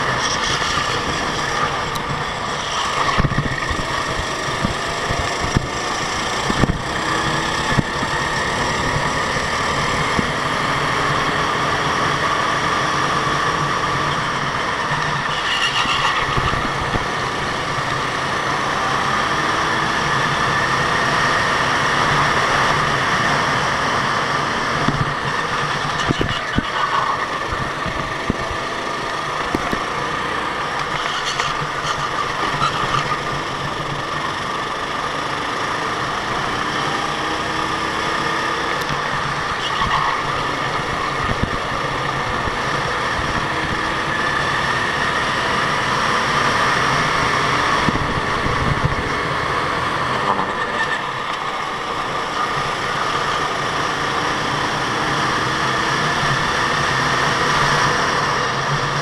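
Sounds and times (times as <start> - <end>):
go-kart engines revving: 0.0 - 59.0.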